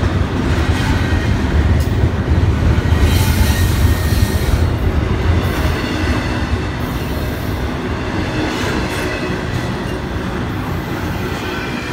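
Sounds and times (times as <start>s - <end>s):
freight train wheels rumbling: 0.0s - 11.9s.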